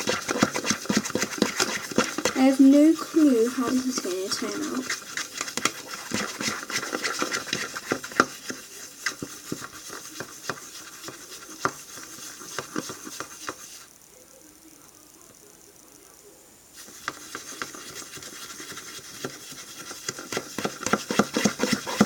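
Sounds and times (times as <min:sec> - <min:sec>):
pencil stirring sticky slime: 0:00.0 - 0:13.9, 0:16.8 - 0:22.0.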